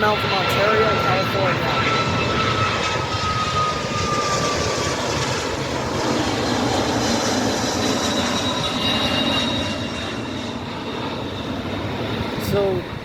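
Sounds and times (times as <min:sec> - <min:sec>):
high engine whine: 0:00.0 - 0:13.0
jet engines roaring: 0:00.0 - 0:13.0.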